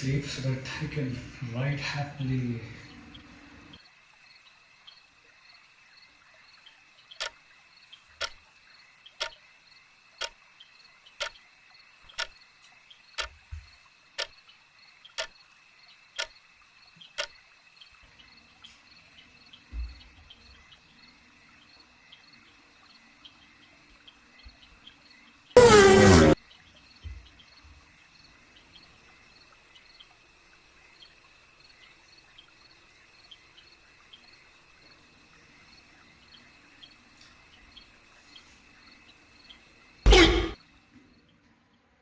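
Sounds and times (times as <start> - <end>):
crickets chirping: 3.7 - 25.5, 26.8 - 40.0.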